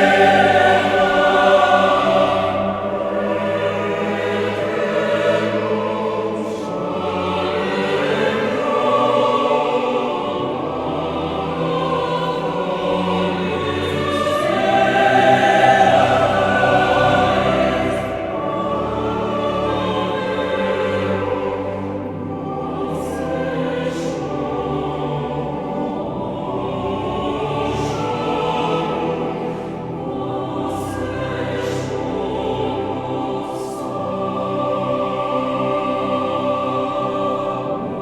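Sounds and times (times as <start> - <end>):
choir singing sustained chords: 0.0 - 38.0.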